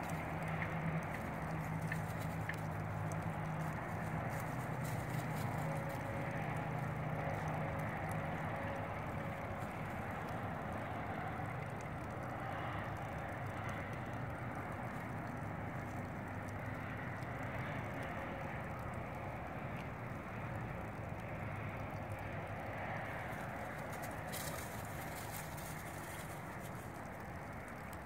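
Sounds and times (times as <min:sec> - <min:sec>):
distant engine rumble: 0:00.0 - 0:28.0.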